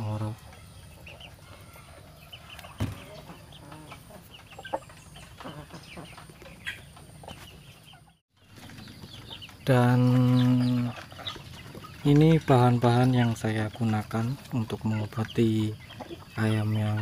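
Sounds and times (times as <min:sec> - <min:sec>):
chickens clucking and peeping: 0:00.0 - 0:17.0.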